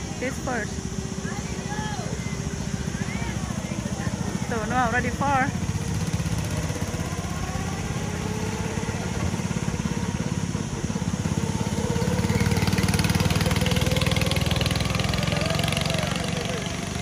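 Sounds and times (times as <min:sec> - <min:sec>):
go-kart engines buzzing: 0:00.0 - 0:17.0.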